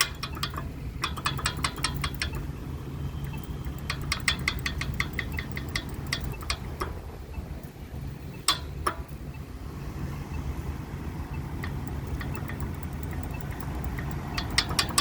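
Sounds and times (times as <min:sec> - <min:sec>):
pedestrian signal rapid ticking: 0:00.0 - 0:09.5, 0:10.4 - 0:15.0
low hum of idling traffic: 0:00.0 - 0:15.0.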